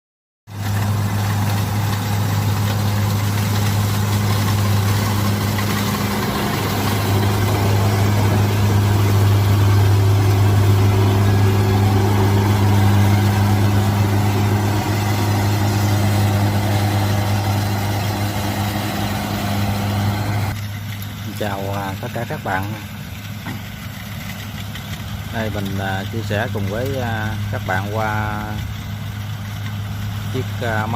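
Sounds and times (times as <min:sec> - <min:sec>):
diesel engine hum: 0:00.5 - 0:30.9
mechanical clatter: 0:00.5 - 0:30.9.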